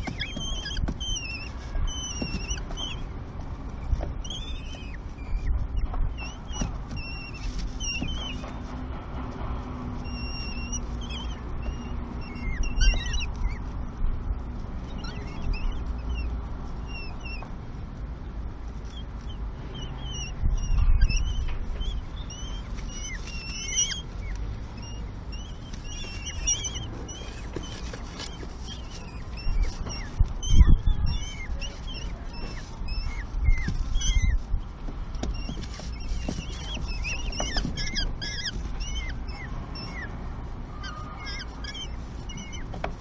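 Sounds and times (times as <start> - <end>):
chicks squeaking begging calls: 0.0 - 8.8, 9.7 - 17.5, 18.8 - 43.0.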